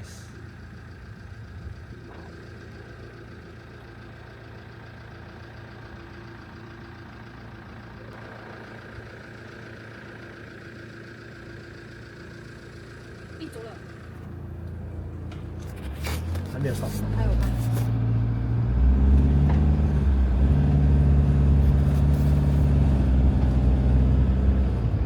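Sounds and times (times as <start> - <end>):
motorhome engine running: 0.0 - 25.0.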